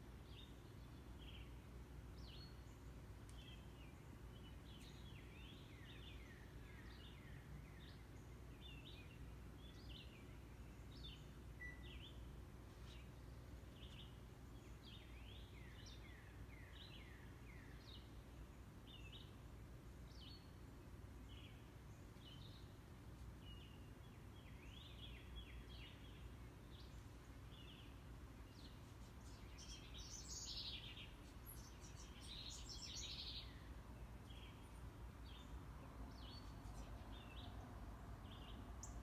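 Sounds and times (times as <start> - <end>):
low steady hum: 0.0 - 39.0
small birds chirping: 0.0 - 39.0.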